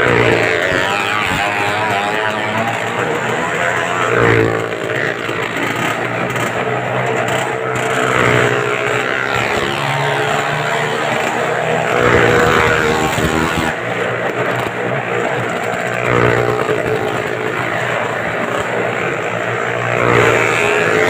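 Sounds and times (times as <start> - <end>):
motorcycle engines running hard: 0.0 - 21.0.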